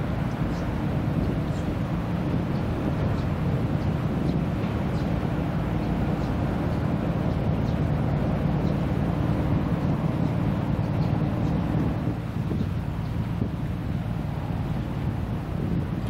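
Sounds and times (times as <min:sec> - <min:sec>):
low rumble with hum: 0:00.0 - 0:16.0
wind on microphone: 0:00.0 - 0:16.0.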